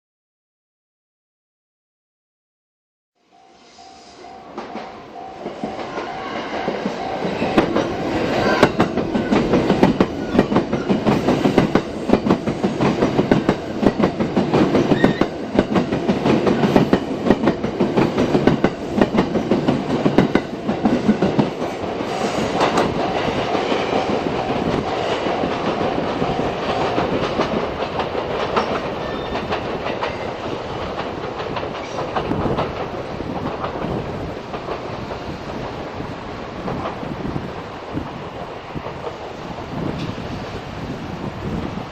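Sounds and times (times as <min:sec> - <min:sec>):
train wheels clattering over rails: 0:04.5 - 0:41.9.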